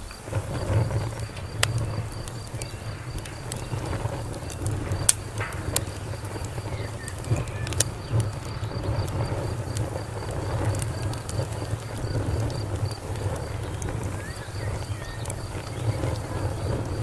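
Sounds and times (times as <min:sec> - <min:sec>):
cricket chirping: 0:00.0 - 0:17.0
wood fire crackling: 0:00.0 - 0:17.0.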